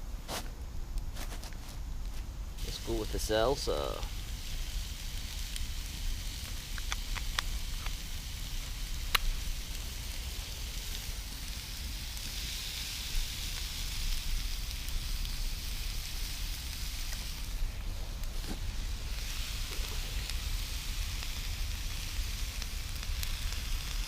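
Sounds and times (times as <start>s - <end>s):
campfire crackling: 0.0s - 24.0s
fire low rumble: 0.0s - 24.0s
soft fire hiss: 0.0s - 24.0s.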